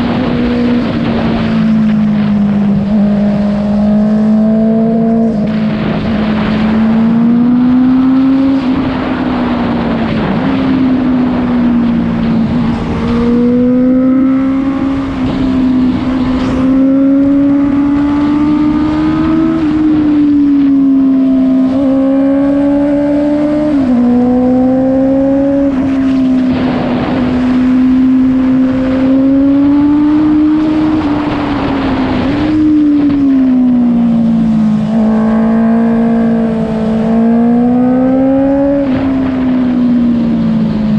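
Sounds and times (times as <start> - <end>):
loud motorcycle engine revving: 0.0 - 11.1, 11.8 - 40.9.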